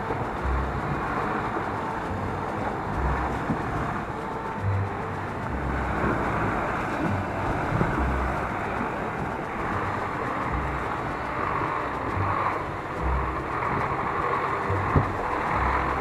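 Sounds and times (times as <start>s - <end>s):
vehicle engine running unevenly: 0.0s - 16.0s
water rushing: 0.0s - 16.0s.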